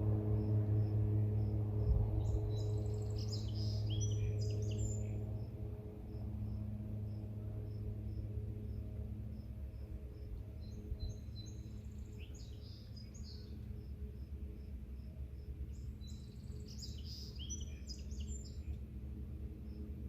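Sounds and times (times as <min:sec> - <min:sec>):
low steady hum: 0:00.0 - 0:20.0
songbird singing: 0:00.3 - 0:08.3, 0:09.4 - 0:18.9
cricket chirping: 0:00.4 - 0:18.2.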